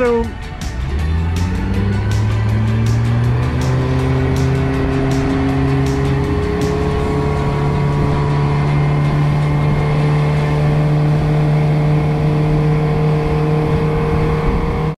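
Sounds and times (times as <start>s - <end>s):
outboard motor drone: 0.0s - 15.0s
rush of boat wake: 1.0s - 15.0s.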